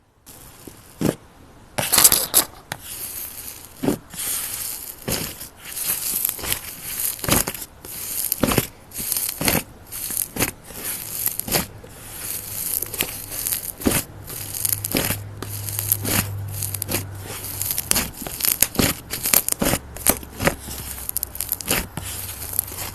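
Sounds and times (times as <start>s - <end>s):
crinkling and tearing: 1.8s - 22.9s.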